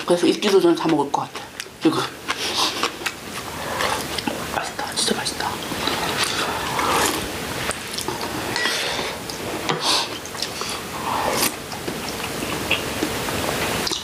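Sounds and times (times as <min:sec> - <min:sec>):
chewing greens: 0:00.0 - 0:04.5, 0:05.6 - 0:14.0.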